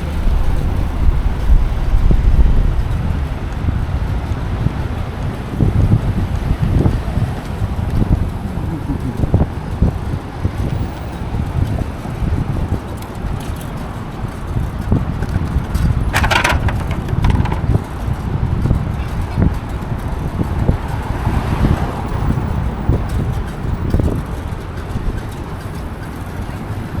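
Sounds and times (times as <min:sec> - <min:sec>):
city traffic rumble: 0:00.0 - 0:27.0
wind buffeting microphone: 0:00.0 - 0:27.0.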